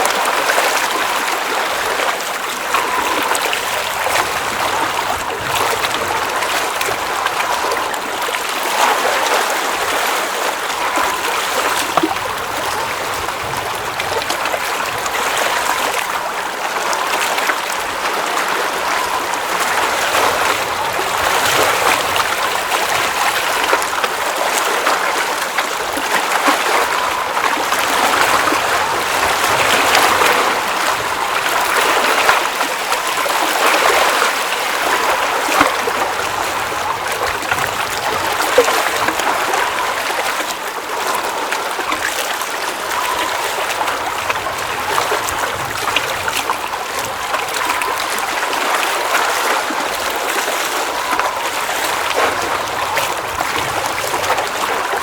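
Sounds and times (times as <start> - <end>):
water splashing at lake edge: 0.0 - 55.0.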